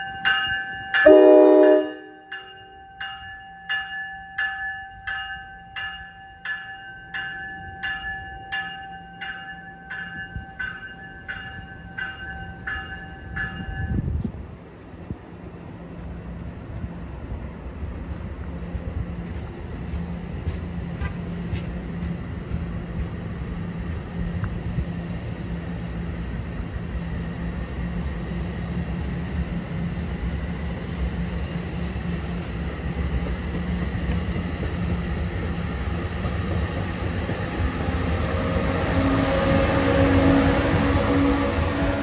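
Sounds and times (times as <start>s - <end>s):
electric locomotive tones: 0.0s - 42.0s
train wheels rumbling on rail: 0.0s - 42.0s.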